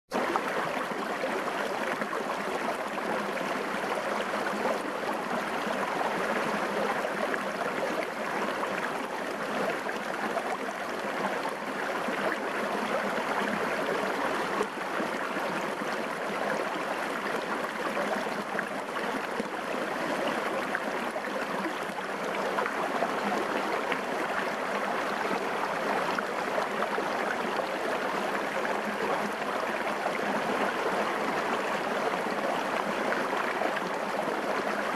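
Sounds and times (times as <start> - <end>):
stream burbling over rocks: 0.1 - 34.9.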